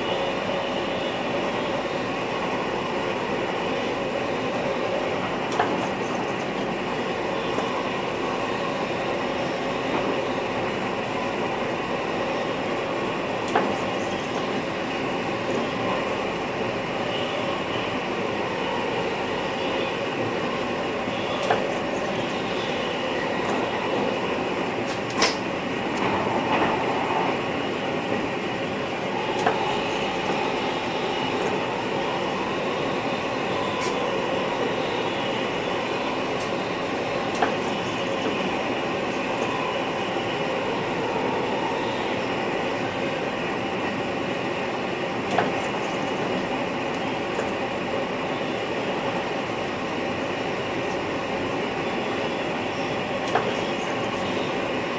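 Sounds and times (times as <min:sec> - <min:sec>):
train running noise: 0:00.0 - 0:54.9.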